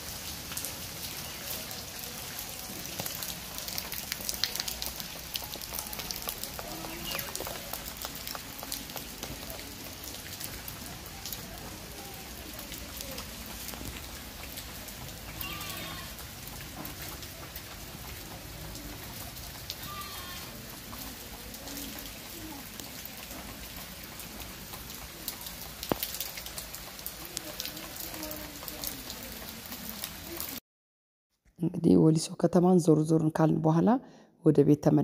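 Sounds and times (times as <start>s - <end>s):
rain falling: 0.0s - 30.6s
raindrops ticking: 0.0s - 30.6s.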